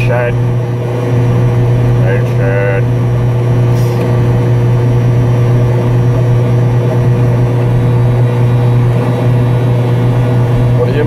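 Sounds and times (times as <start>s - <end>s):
small two-stroke engine running: 0.0s - 11.0s.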